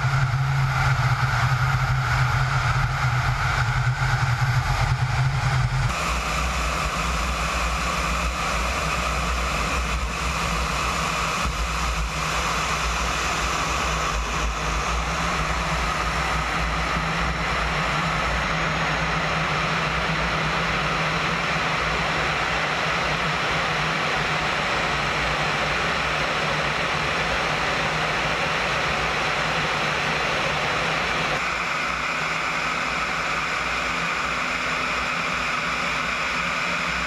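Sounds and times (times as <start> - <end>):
jet engines rushing: 0.0 - 37.0.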